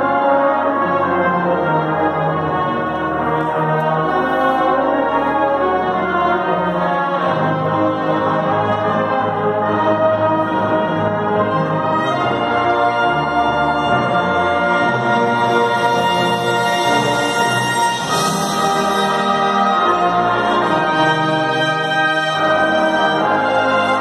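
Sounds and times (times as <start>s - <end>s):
brass band playing slow chords: 0.0s - 24.0s.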